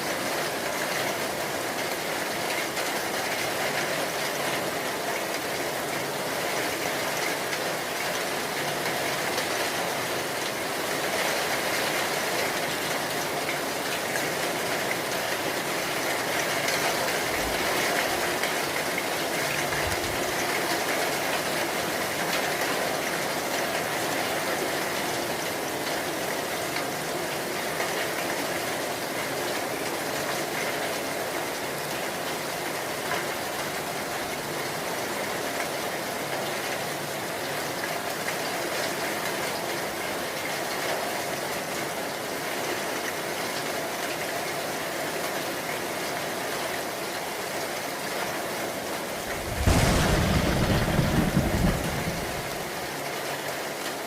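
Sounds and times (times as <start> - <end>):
rain pouring: 0.0 - 54.0.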